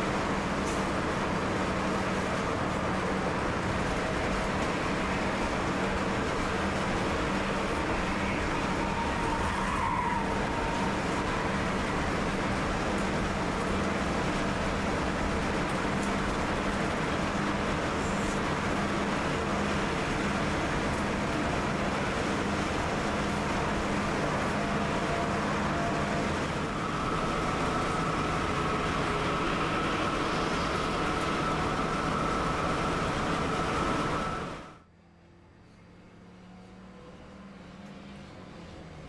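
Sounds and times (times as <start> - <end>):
thin steady whine: 0.0 - 34.9
coach engine and road noise: 0.0 - 39.0.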